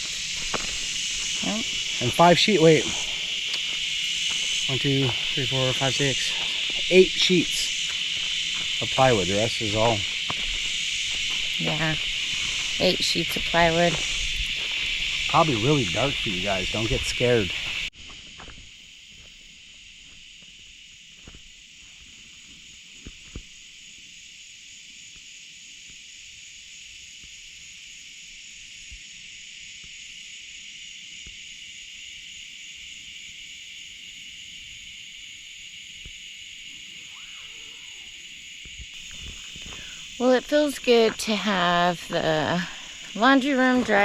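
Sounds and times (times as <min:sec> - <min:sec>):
cicadas buzzing: 0:00.0 - 0:44.0.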